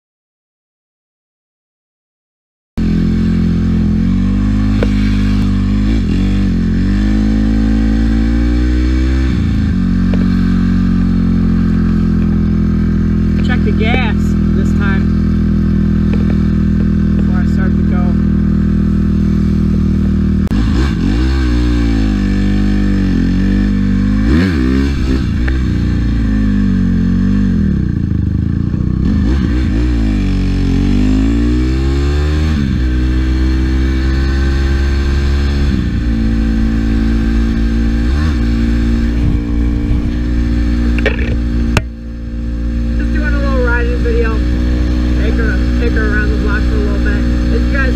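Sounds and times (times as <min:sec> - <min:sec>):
dirt bike engine revving: 0:02.8 - 0:47.9.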